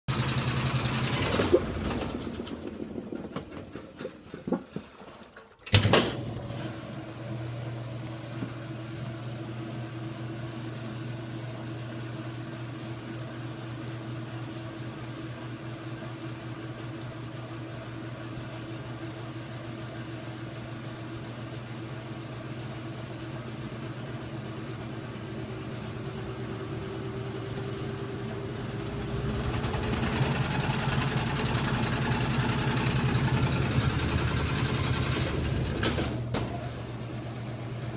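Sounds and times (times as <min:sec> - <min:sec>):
washing machine motor hum: 0:00.1 - 0:03.9, 0:05.7 - 0:37.9
washing machine drum spinning whine: 0:00.1 - 0:04.0, 0:05.7 - 0:37.9.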